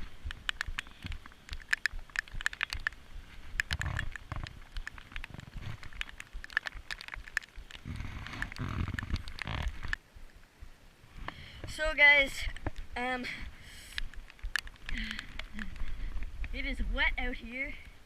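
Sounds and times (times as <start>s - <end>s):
movement rumbling against microphone: 0.0s - 17.1s
raindrops ticking on camera housing: 0.0s - 17.5s.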